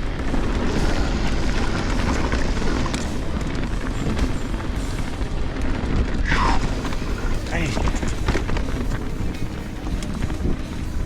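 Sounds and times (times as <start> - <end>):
bike tyre and drivetrain rattle: 0.0 - 11.0
wind rumble on microphone: 0.0 - 11.0.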